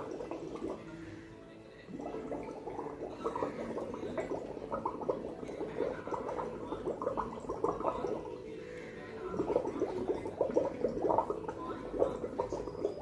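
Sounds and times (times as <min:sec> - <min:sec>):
bubbling through a straw: 0:00.0 - 0:13.0.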